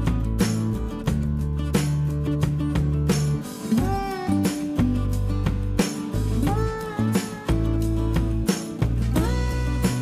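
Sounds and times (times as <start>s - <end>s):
plucked guitar music: 0.0s - 10.0s
steady bass: 0.0s - 10.0s.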